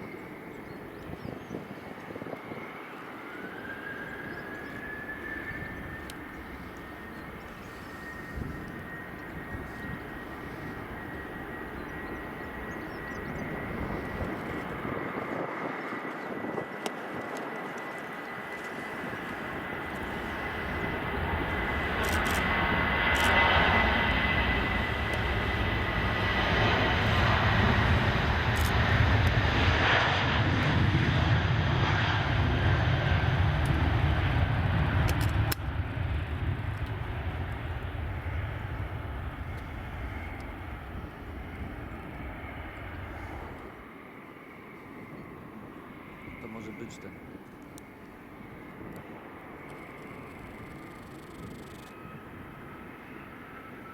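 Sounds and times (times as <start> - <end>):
jet aircraft engines roaring: 0.0 - 53.9.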